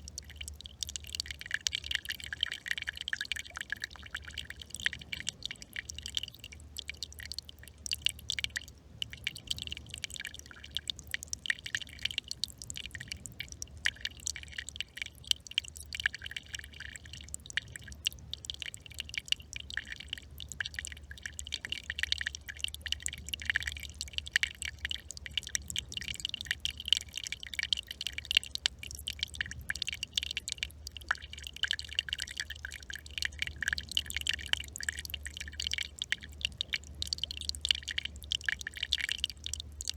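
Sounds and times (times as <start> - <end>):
low steady hum: 0.0 - 39.9
stream trickling: 0.0 - 39.9.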